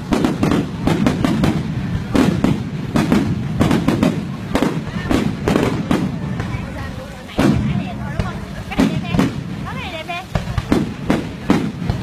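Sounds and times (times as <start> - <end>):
fireworks bursts and crackling bangs: 0.0 - 12.0.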